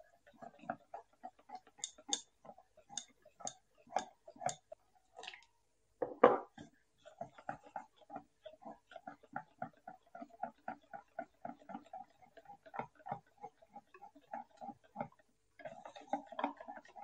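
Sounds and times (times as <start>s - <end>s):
whisk knocking bowl: 0.0s - 4.8s, 6.0s - 17.0s
whisk beating batter in metal bowl: 0.0s - 5.2s, 6.5s - 17.0s.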